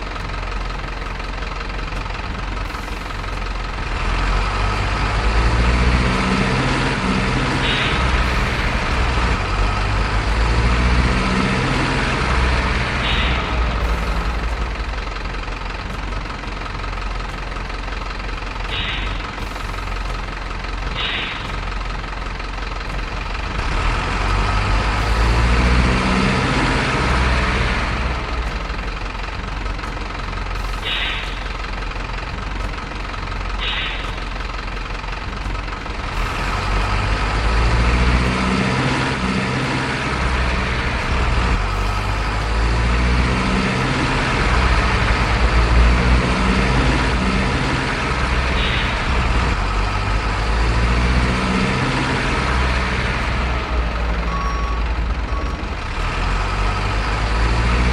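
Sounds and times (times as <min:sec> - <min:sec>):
diesel truck engines rumbling: 0:00.0 - 0:57.9.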